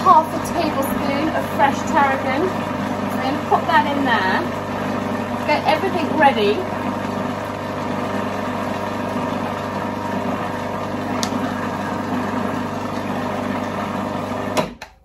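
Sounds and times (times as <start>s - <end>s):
food processor motor whizzing: 0.0s - 14.9s.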